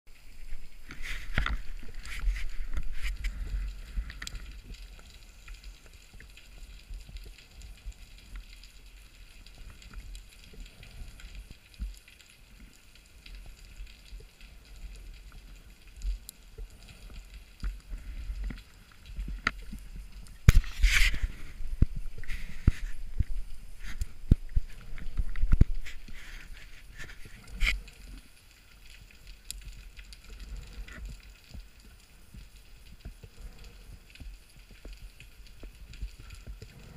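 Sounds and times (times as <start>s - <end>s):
muffled underwater rumble: 0.1s - 36.9s.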